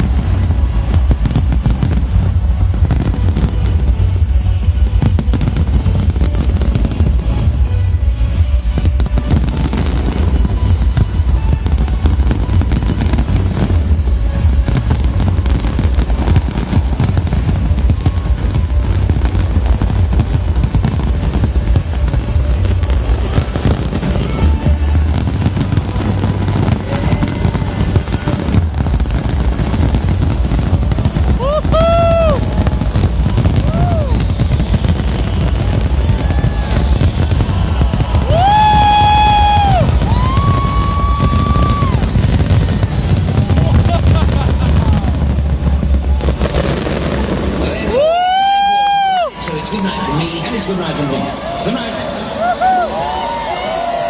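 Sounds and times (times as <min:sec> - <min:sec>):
fireworks bangs and crackles: 0:00.0 - 0:54.0
music playing: 0:00.0 - 0:54.0
outdoor crowd rumble: 0:00.0 - 0:54.0.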